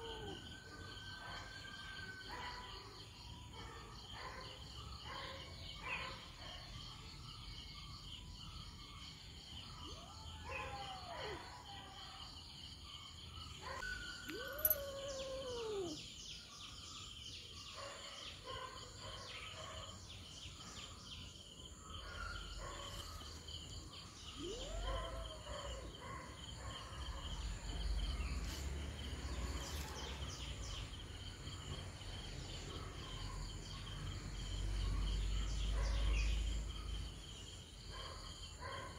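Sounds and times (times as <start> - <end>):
crickets and insects chorus: 0.0 - 38.9.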